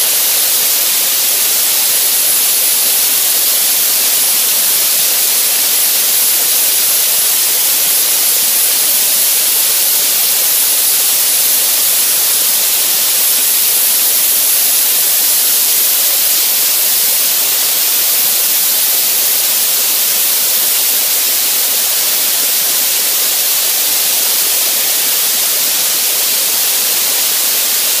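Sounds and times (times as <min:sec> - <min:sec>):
media-blasting nozzle hissing: 0:00.0 - 0:28.0.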